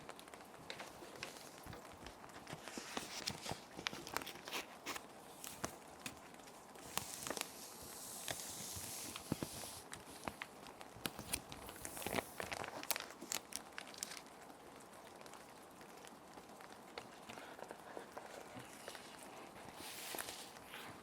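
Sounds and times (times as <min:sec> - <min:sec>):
plastic sheet protectors crinkling: 0:00.0 - 0:14.4, 0:17.2 - 0:21.0
soft steady rain: 0:00.0 - 0:21.0.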